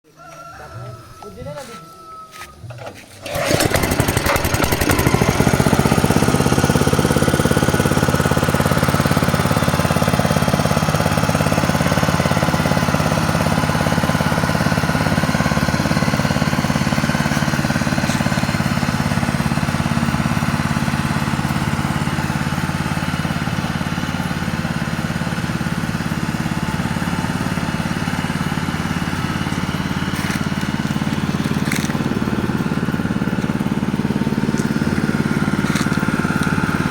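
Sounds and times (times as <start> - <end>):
vibrating sieving machine running: 3.2 - 36.9.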